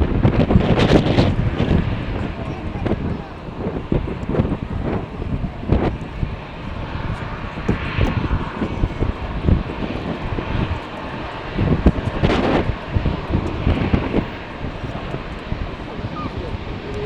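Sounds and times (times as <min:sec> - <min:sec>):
jet engines running: 0:00.0 - 0:17.0
wind buffeting microphone: 0:00.0 - 0:17.0.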